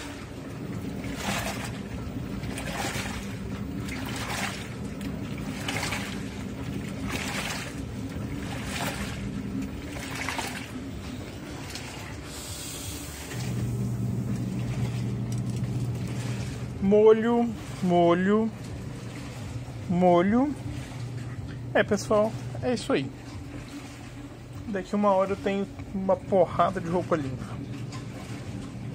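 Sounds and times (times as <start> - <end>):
twin-tub washer churning laundry: 0.0 - 28.9
washing machine motor hum: 0.0 - 28.9
water sloshing in washing machine: 0.0 - 28.9.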